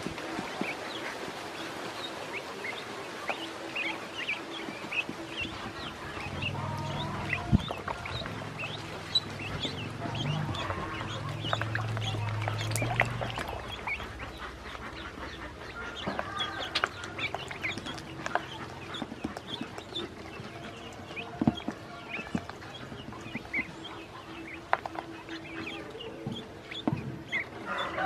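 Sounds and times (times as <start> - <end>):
ducklings peeping: 0.1 - 28.0.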